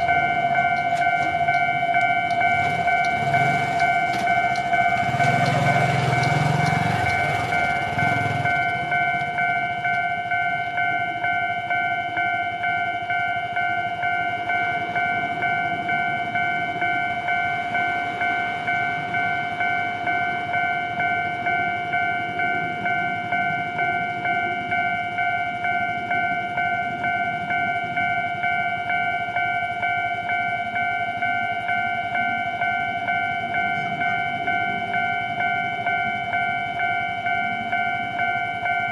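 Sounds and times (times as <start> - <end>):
electric train rumble: 0.0 - 38.9
level crossing alarm ringing: 0.0 - 38.9.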